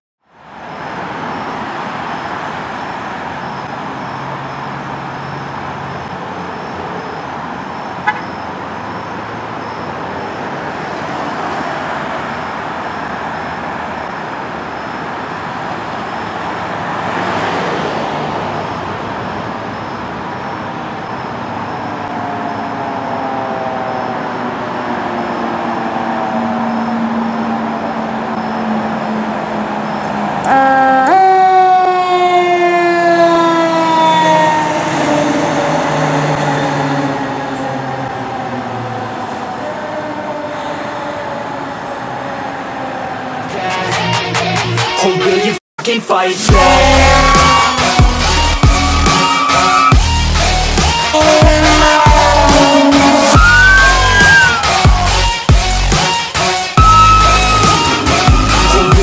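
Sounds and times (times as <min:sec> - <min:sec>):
road traffic noise: 0:00.2 - 0:59.0
fire engine siren wailing: 0:00.3 - 0:44.1, 0:46.5 - 0:59.0
vehicle passing: 0:00.4 - 0:44.8, 0:46.5 - 0:59.0.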